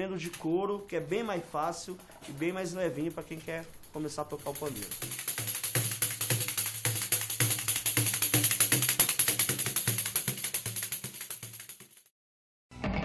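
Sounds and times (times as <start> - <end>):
tambourine jingles in samba groove: 0.2 - 12.1.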